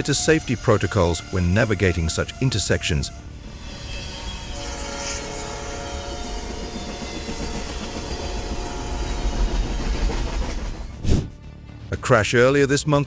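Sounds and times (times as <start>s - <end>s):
freight train rumbling on track: 0.0s - 11.8s.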